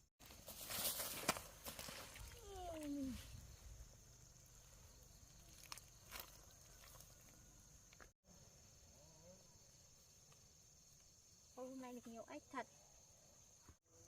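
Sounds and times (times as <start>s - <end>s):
insects chirring: 0.2s - 14.0s.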